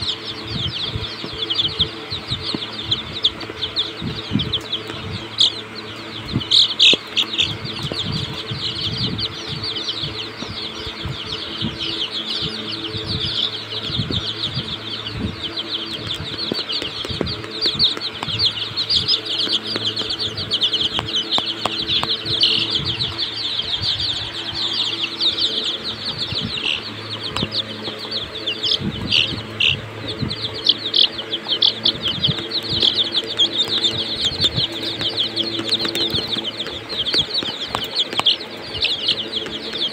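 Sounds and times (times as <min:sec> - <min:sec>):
chicks peeping: 0:00.0 - 0:39.9
faint steady hum: 0:00.0 - 0:39.9
low thumps: 0:06.2 - 0:38.4.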